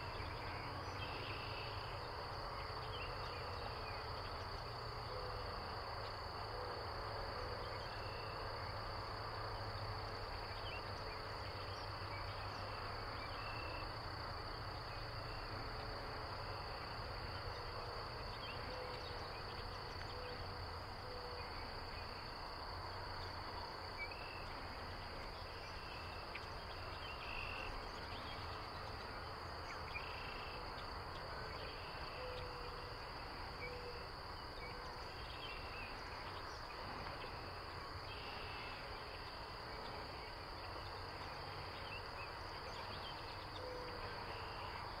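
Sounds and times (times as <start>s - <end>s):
high insect trill: 0.0s - 45.0s.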